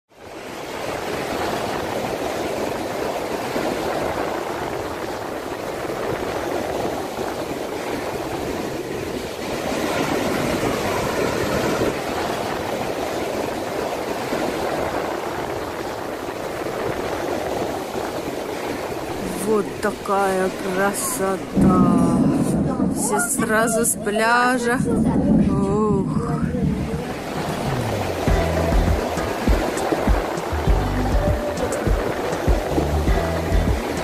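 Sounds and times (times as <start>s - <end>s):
waves breaking on beach: 0.1s - 34.0s.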